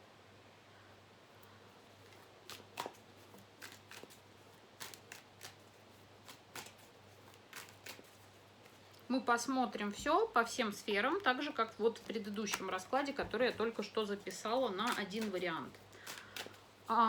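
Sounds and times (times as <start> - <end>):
faint low hum: 0.0 - 17.0
cards being shuffled: 1.9 - 9.1, 9.8 - 17.0.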